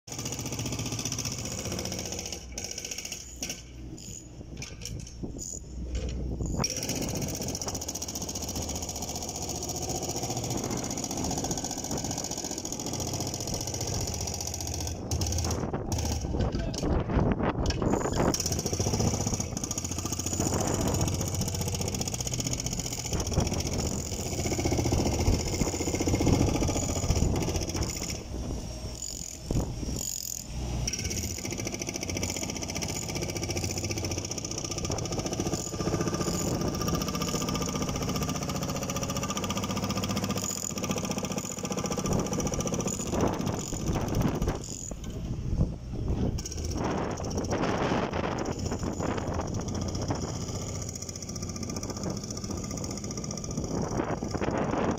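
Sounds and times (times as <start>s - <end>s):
diesel engine running: 5.8s - 54.9s.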